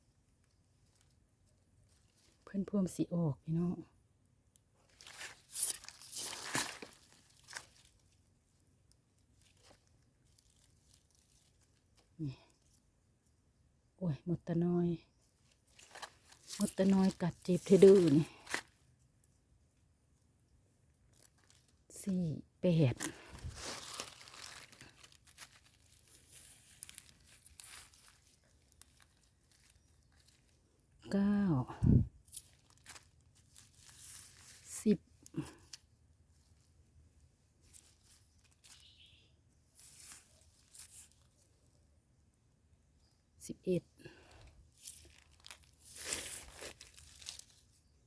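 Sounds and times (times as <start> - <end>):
rustling and crunching of ground litter: 0.0 - 3.0, 4.7 - 13.4, 15.1 - 19.5, 20.4 - 41.9, 44.1 - 48.0.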